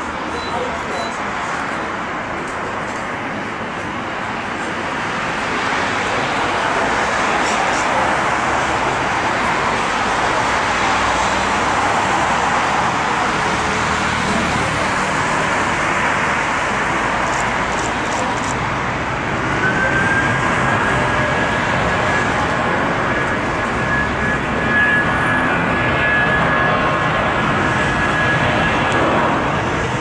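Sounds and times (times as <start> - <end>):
jet engine rushing: 1.1 - 30.0.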